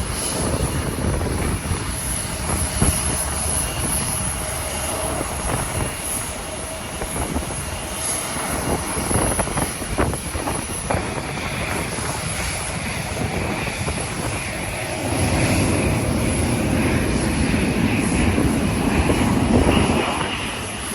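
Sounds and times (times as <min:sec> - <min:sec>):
airliner engines running: 0:00.0 - 0:20.9
wind buffeting microphone: 0:00.0 - 0:20.9.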